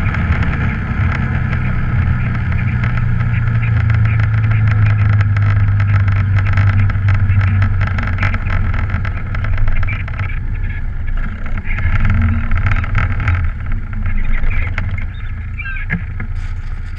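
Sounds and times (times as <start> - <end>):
quad bike engine running: 0.0 - 16.9.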